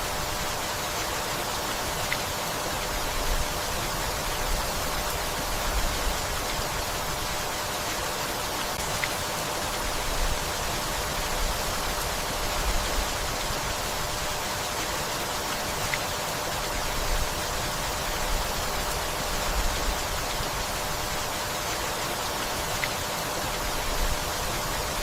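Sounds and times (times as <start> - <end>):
steady rainfall: 0.0 - 25.0.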